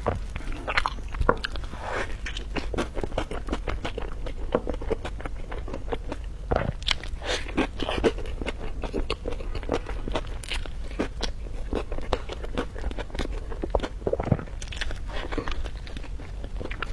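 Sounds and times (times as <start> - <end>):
biting and chewing: 0.0 - 16.9.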